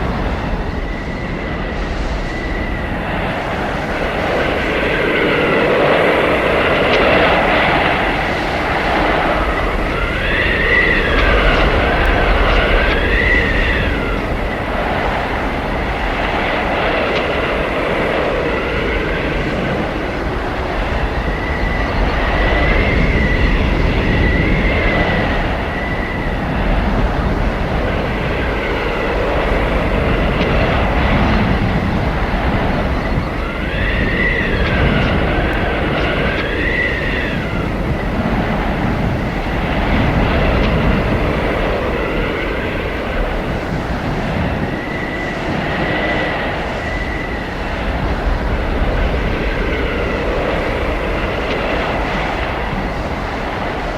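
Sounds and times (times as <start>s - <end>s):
blizzard wind howling and whistling: 0.0s - 53.9s.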